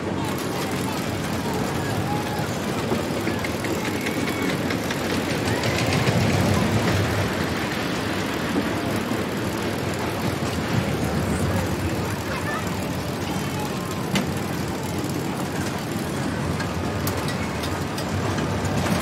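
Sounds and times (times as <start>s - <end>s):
faint crowd chatter: 0.0s - 19.0s.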